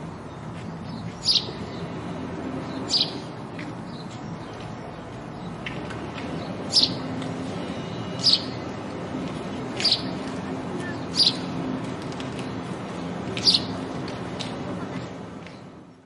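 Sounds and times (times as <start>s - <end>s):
sparrows chirping: 0.0s - 14.2s.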